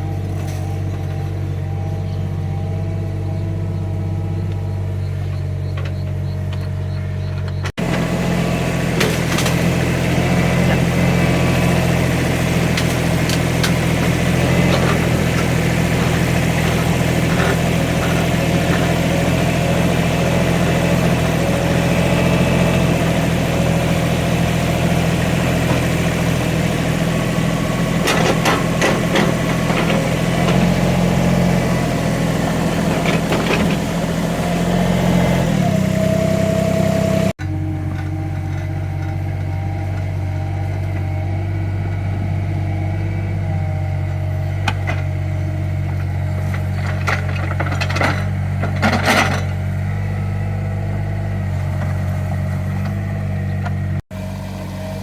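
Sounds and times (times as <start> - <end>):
excavator diesel engine running: 0.0 - 55.0
high engine whine: 0.0 - 55.0.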